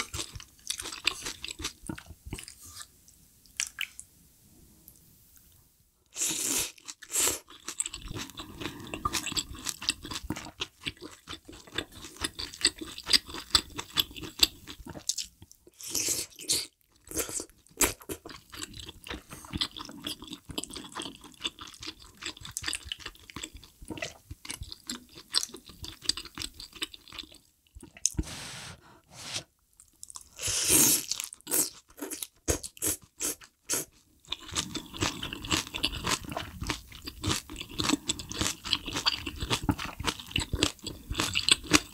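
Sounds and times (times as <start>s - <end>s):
chewing and crunching food: 0.0s - 2.9s, 6.3s - 28.2s, 29.8s - 41.9s.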